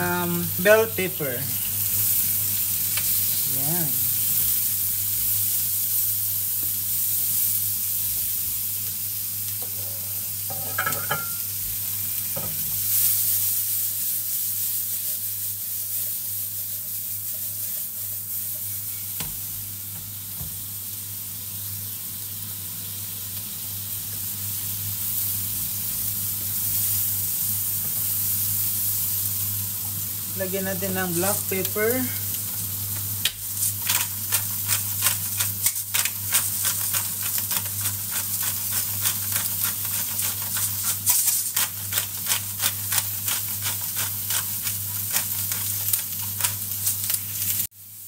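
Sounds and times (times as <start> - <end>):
vegetables sizzling in oil: 0.0 - 48.0.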